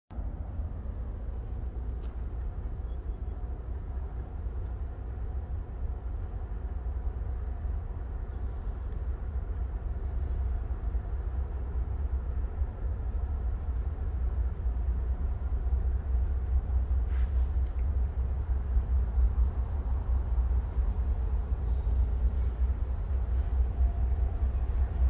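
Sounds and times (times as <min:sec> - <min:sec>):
faint pulsing high whine: 0:00.1 - 0:25.0
freight train rumble: 0:00.1 - 0:25.0.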